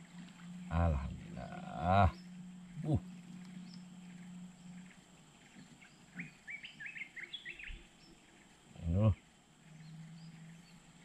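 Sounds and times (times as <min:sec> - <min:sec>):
faint outdoor background noise: 0:00.0 - 0:11.0
bird chirping: 0:00.6 - 0:11.0.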